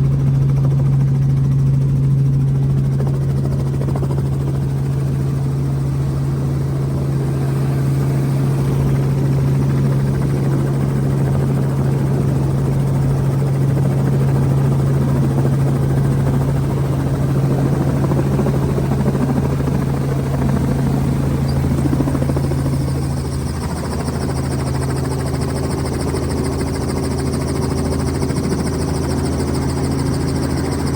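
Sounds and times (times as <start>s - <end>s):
helicopter rotor and engine drone: 0.0s - 30.9s.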